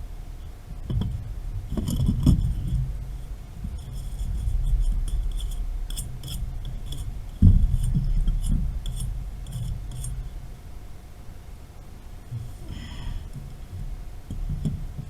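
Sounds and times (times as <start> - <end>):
low rumble: 0.0 - 14.2.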